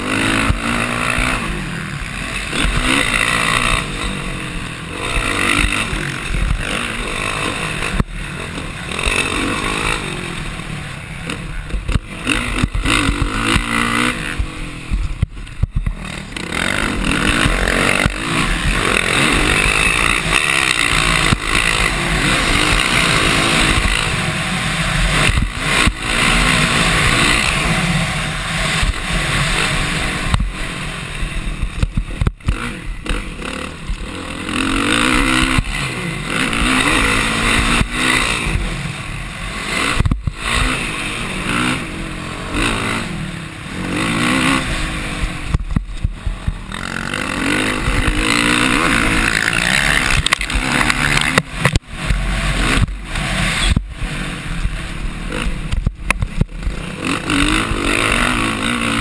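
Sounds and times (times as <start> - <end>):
dirt bike engine revving: 0.0 - 59.0
rushing wind noise: 9.7 - 59.0.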